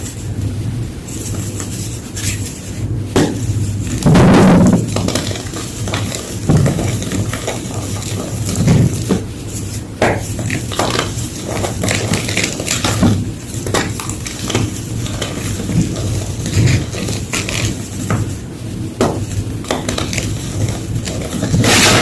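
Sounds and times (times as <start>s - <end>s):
low steady hum: 0.0s - 22.0s
chalk crunching and crackling: 1.1s - 22.0s.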